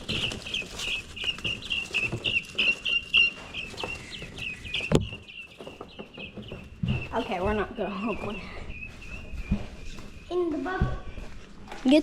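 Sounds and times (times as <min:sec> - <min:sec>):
chicks peeping: 0:00.0 - 0:11.8.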